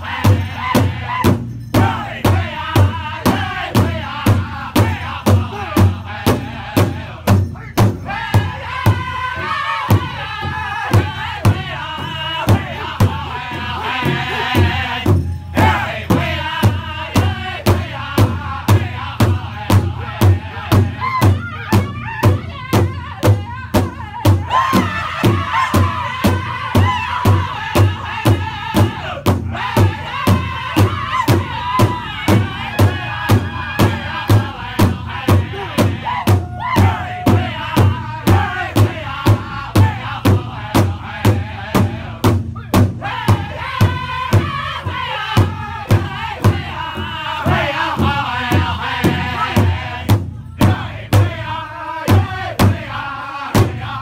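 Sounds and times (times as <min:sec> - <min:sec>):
large hand drum beating: 0:00.0 - 0:52.9
men singing in unison: 0:00.0 - 0:54.0.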